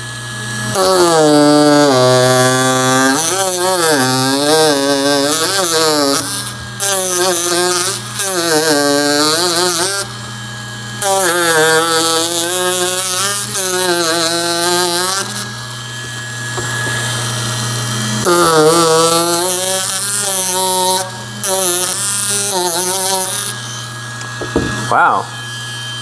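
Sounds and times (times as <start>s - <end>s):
power carver motor whine: 0.0s - 26.0s.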